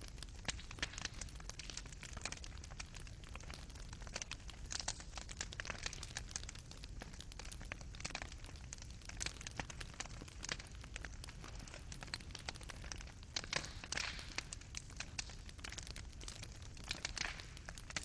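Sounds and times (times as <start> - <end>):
coals crackling and popping: 0.0 - 18.0
low fire rumble: 0.0 - 18.0.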